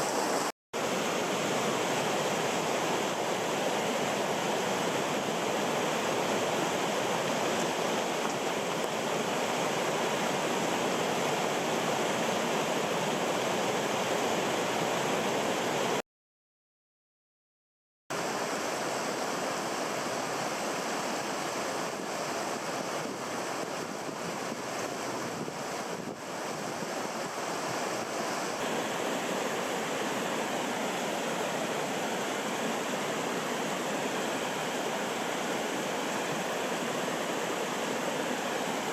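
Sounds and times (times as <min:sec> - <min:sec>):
stream water rushing: 0:00.0 - 0:16.0, 0:18.1 - 0:38.9.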